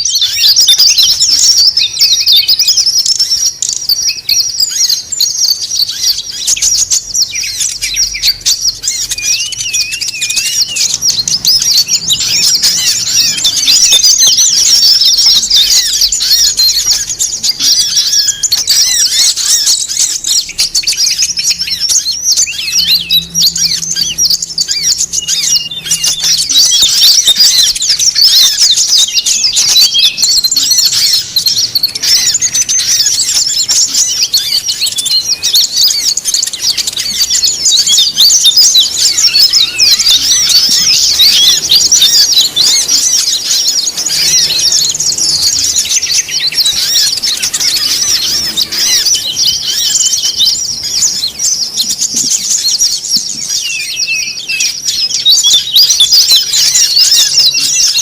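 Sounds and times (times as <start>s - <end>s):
small songbirds chirping and trilling: 0.0s - 58.0s.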